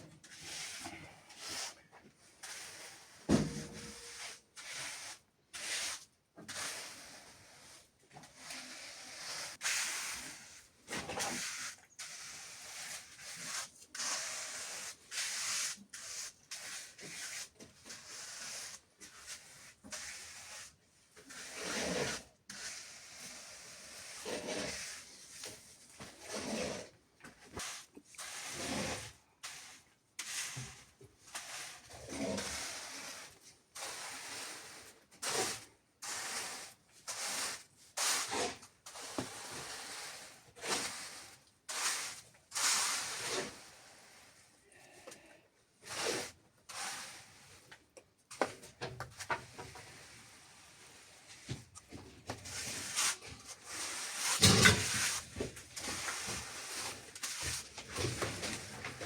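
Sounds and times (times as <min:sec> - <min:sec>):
trowel scraping wet cement: 0:03.8 - 0:44.5, 0:45.8 - 0:47.7, 0:49.1 - 0:59.0.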